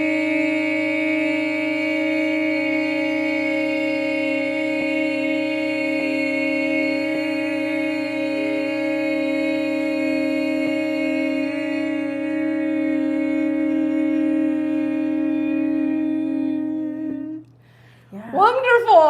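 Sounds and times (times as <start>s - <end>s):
voices humming a long note: 0.0s - 19.0s.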